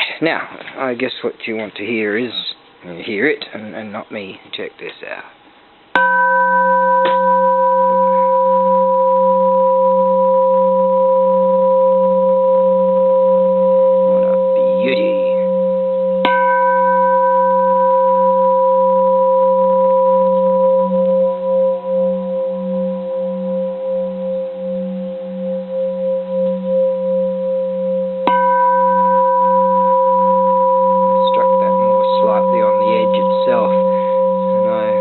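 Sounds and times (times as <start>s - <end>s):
temple bell struck: 6.0s - 25.0s, 25.8s - 35.0s
bell ringing with low hum: 6.0s - 35.0s.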